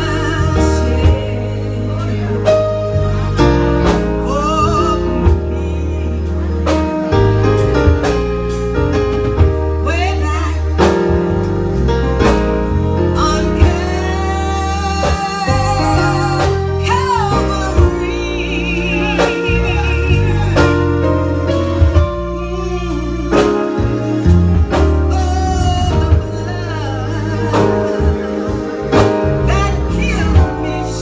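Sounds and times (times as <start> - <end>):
gospel singing over a band: 0.0 - 8.6, 9.8 - 31.0.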